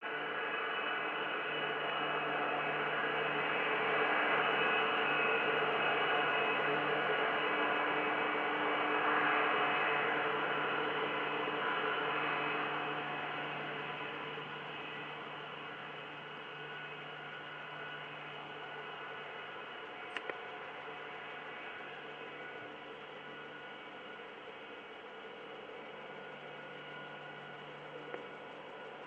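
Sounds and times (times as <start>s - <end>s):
jet engines roaring and whining: 0.1s - 29.0s.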